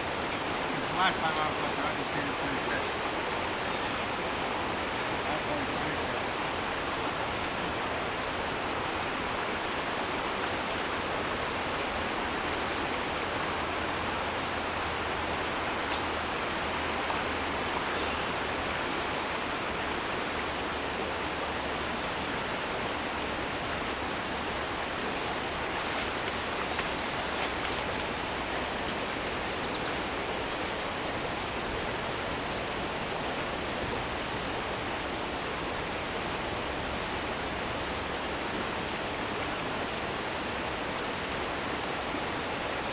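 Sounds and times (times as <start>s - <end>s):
stream water rushing: 0.0s - 42.9s.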